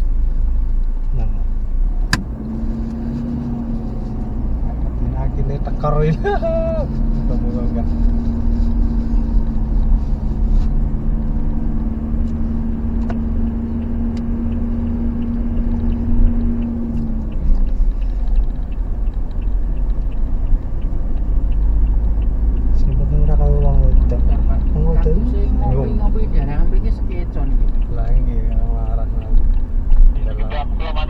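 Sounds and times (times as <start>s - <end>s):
road rumble: 0.0s - 31.0s
vehicle engine hum: 0.0s - 31.0s.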